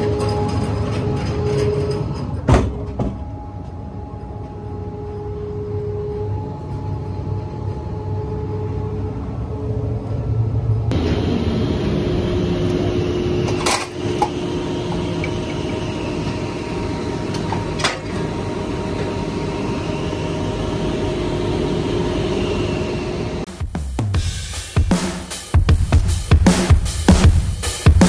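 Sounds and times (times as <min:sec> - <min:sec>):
machinery droning: 0:00.0 - 0:23.5.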